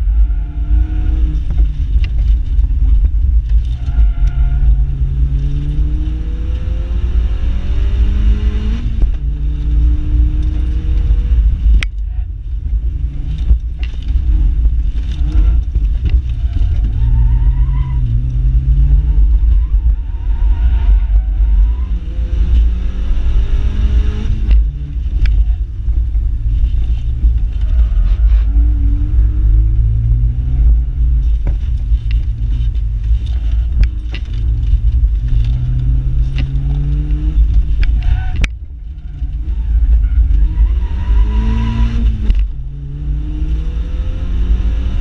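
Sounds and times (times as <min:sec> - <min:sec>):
car engine revving: 0:00.0 - 0:45.0
heavy low rumble: 0:00.0 - 0:45.0.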